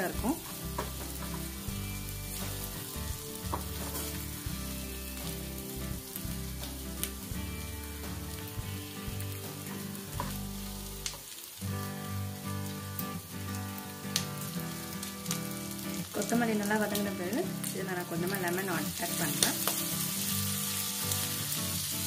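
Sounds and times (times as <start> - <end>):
food sizzling in butter: 0.0 - 22.0.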